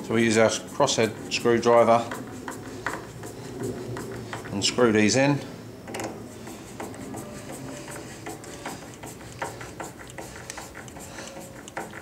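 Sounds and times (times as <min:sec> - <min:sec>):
screwdriver clicking and scraping: 0:00.8 - 0:04.6, 0:05.9 - 0:12.0.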